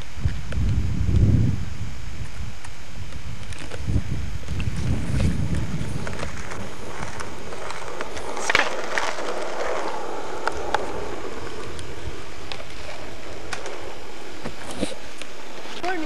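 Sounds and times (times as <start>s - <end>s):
skateboard wheels rolling on pavement: 0.0s - 16.0s
skateboard clacks: 2.2s - 16.0s.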